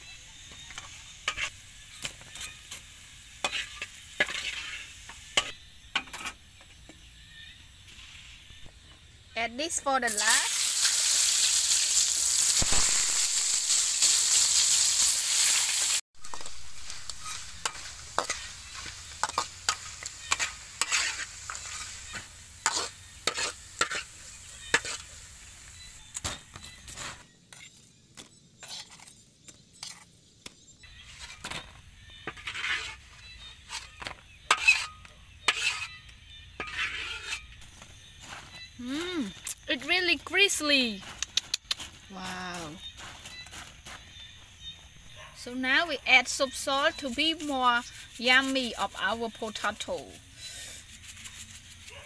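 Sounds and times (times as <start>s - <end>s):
spatula scraping a wok: 0.0s - 8.7s, 10.1s - 27.8s, 28.6s - 30.2s, 30.8s - 41.2s, 46.2s - 52.0s
potato slices sizzling in oil: 0.0s - 28.0s, 28.6s - 52.0s.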